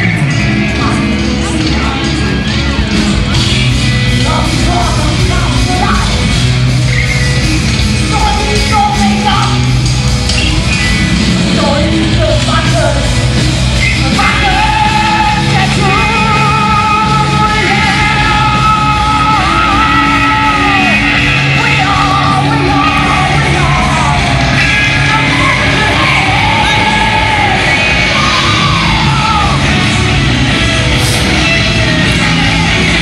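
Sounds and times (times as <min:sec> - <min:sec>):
heavy metal band playing: 0:00.0 - 0:33.0.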